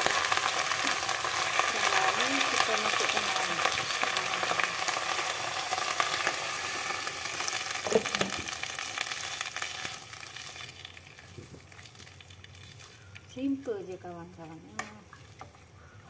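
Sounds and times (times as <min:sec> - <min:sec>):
greens sizzling in hot oil: 0:00.0 - 0:16.0.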